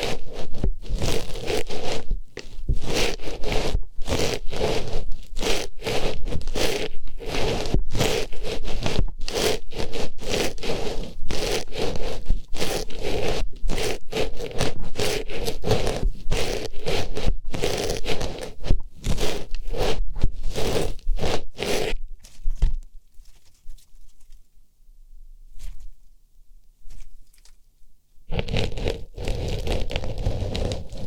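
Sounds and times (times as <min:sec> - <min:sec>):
artificial flower scratching microphone: 0:00.0 - 0:22.6, 0:28.3 - 0:31.0.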